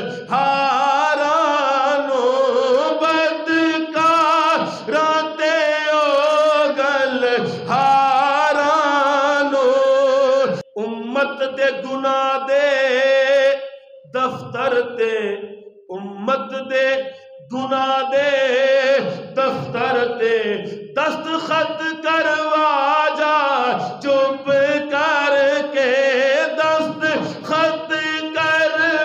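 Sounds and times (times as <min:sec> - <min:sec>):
man chanting devotional verse: 0:00.0 - 0:29.0.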